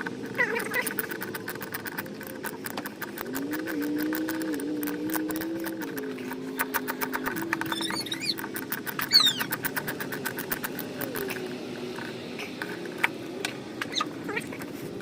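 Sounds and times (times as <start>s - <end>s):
motor hum changing pitch: 0.0s - 15.0s
rapid clicking: 0.0s - 15.0s.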